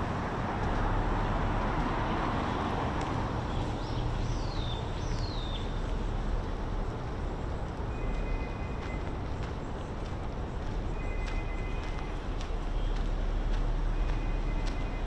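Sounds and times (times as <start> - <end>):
distant city traffic hum: 0.0 - 15.0.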